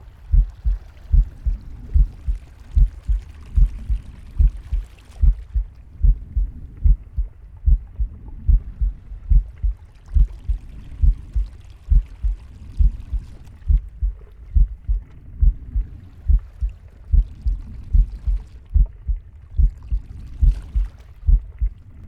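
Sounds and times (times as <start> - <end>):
heartbeat thumps: 0.3 - 21.8.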